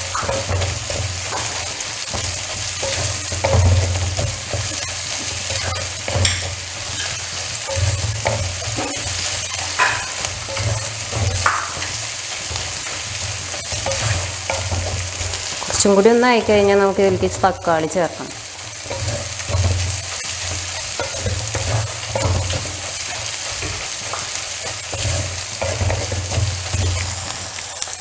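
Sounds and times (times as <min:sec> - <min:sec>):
onions sizzling in oil: 0:00.0 - 0:28.0
spatula scraping and stirring: 0:00.0 - 0:28.0.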